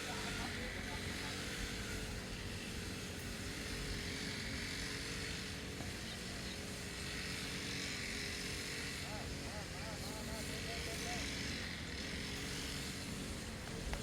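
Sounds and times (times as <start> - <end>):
grass cutter engine drone: 0.0 - 14.0.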